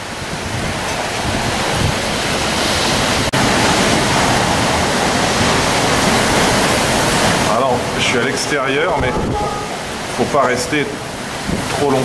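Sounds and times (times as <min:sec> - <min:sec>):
gusts buffeting microphone: 0:00.0 - 0:12.0
wind and driving rain: 0:00.0 - 0:12.0.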